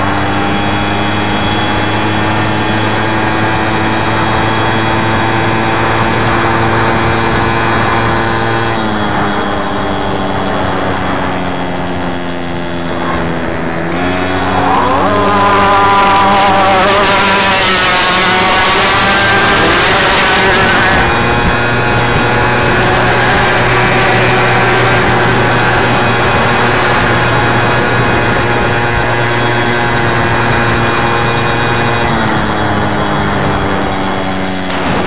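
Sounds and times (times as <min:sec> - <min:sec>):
moped engines passing: 0:00.0 - 0:35.0.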